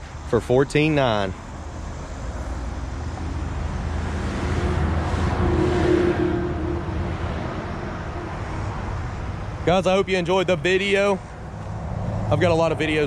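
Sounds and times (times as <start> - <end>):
low traffic rumble: 0.0 - 13.0
vehicle passing by: 1.7 - 13.0.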